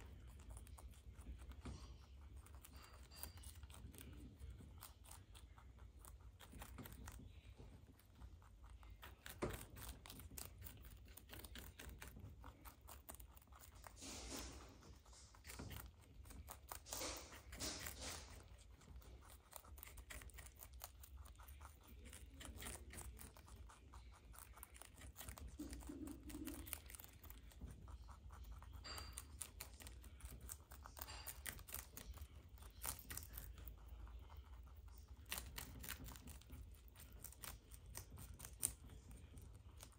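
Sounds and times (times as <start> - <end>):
rabbits crunching leaves: 0.0 - 39.9.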